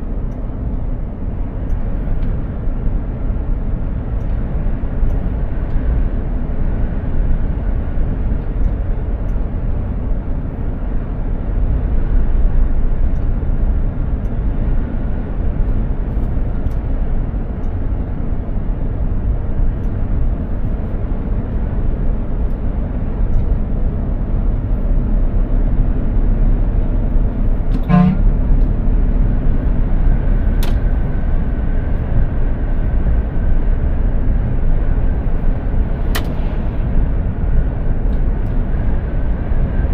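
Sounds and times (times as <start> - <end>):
heavy truck engine and road rumble: 0.0 - 39.9.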